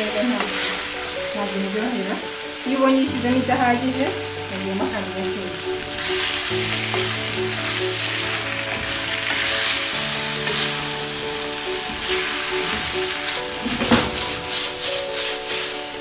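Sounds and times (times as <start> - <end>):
chicken sizzling in a frying pan: 0.0 - 16.0
soft background music: 0.0 - 16.0.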